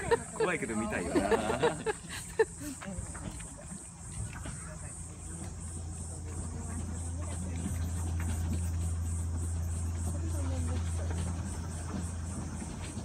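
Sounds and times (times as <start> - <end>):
cicadas chirring: 0.0 - 13.0
steady low hum: 0.0 - 13.0.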